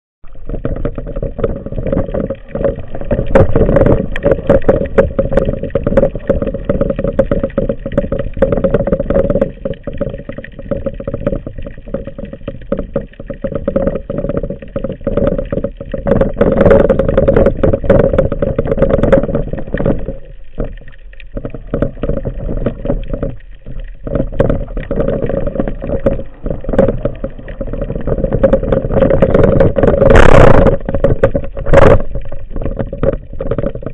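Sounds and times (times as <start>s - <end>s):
dense crackling: 0.2s - 33.9s
underwater rushing water: 0.2s - 33.9s.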